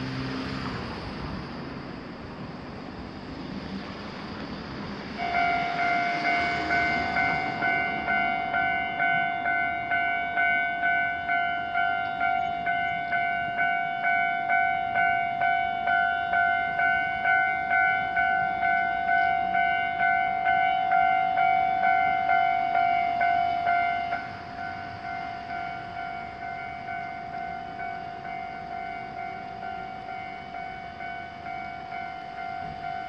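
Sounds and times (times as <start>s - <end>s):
level crossing warning bell: 5.2s - 33.0s.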